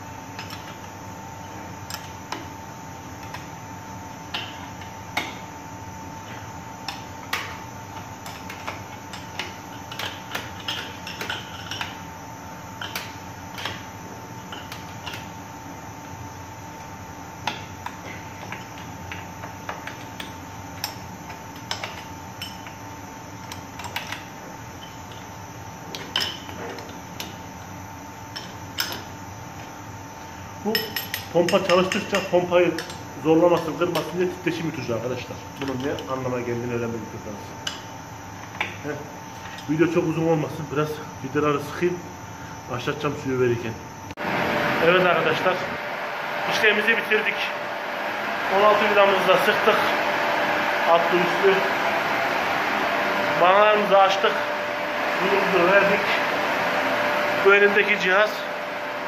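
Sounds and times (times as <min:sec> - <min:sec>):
steady machine hum: 0:00.0 - 0:59.0.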